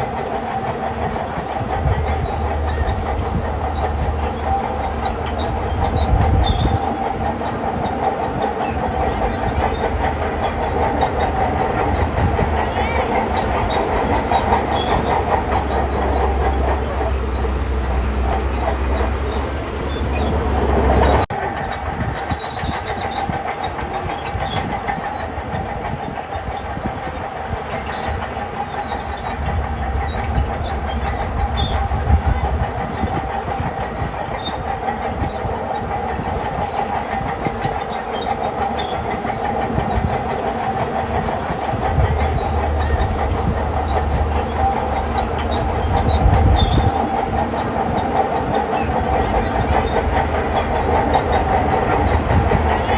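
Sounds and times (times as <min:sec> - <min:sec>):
steel tracks clanking: 0:00.0 - 0:52.9
bulldozer diesel engine: 0:00.1 - 0:22.0, 0:27.9 - 0:52.9.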